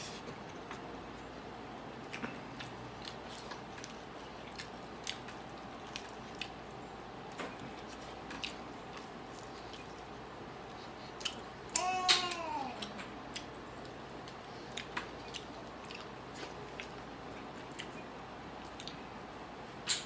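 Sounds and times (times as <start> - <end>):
mouth chewing and smacking: 2.0 - 19.1.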